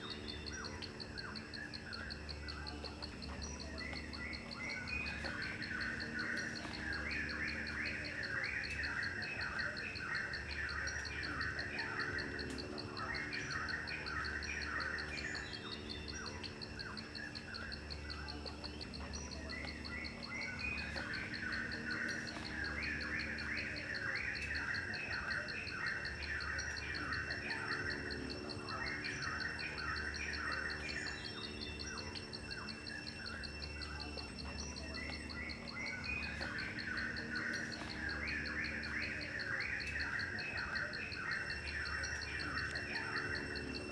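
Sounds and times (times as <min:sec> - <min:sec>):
birds chirping: 0:00.0 - 0:43.9
insects trilling: 0:00.0 - 0:43.9.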